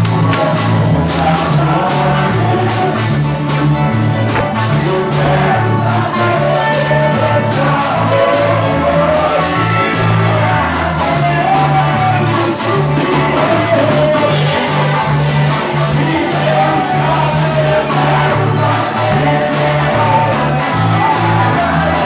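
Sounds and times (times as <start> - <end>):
singing over pulsing bass line: 0.0 - 22.0.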